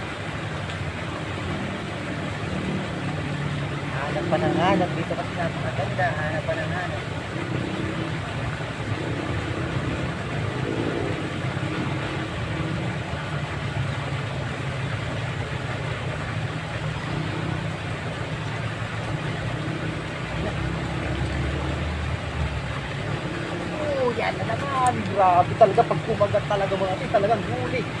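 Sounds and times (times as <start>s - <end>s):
engine and traffic rumble: 0.0s - 28.0s.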